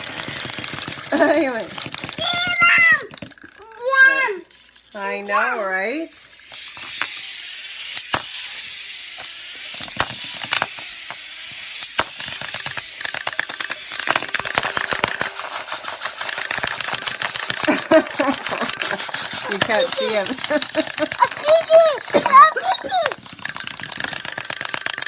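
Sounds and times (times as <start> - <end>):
clockwork toys clicking and whirring: 0.0 - 25.0.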